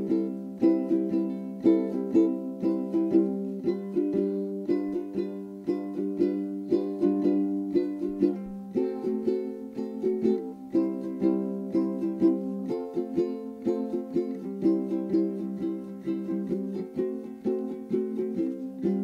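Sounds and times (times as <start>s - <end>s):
light instrumental plucked tune: 0.0s - 19.0s.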